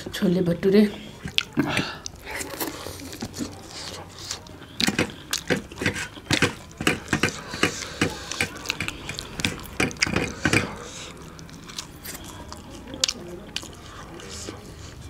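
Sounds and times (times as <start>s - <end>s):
chewing clicks and smacks: 1.2s - 15.0s
fingers scooping in steel bowls: 1.2s - 15.0s.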